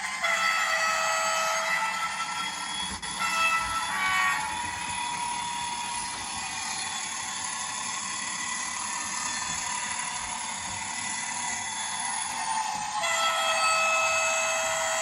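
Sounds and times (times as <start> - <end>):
model train drone and hiss: 0.0 - 15.0.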